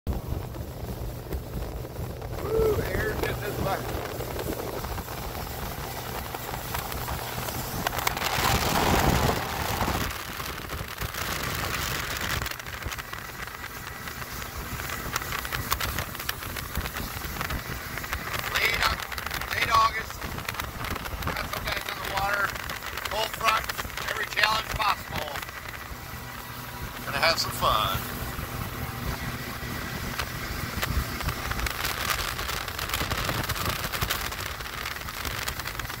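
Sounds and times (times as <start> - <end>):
outboard motor drone: 0.1 - 36.0
sharp crackles: 0.1 - 36.0
wind buffeting microphone: 0.1 - 36.0
spray hissing off hull: 0.8 - 36.0.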